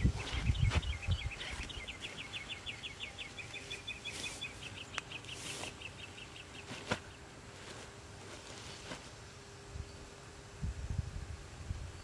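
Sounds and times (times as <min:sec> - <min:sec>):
songbird chirping: 0:00.0 - 0:10.1.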